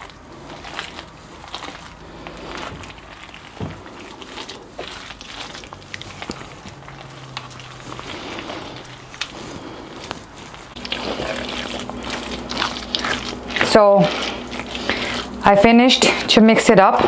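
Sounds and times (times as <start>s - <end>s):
wet sticky stirring: 0.0s - 16.9s.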